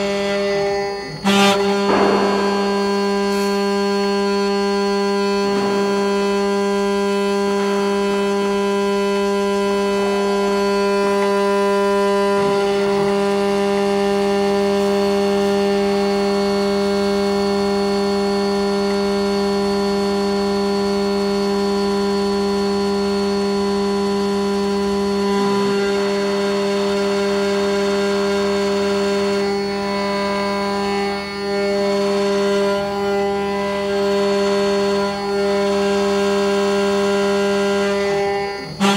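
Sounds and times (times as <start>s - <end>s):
cnc router spindle whine: 0.0s - 38.9s
end mill cutting metal: 0.0s - 38.9s.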